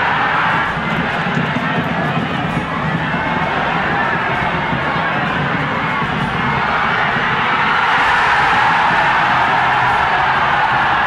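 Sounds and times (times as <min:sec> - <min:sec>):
stadium crowd noise: 0:00.0 - 0:11.0.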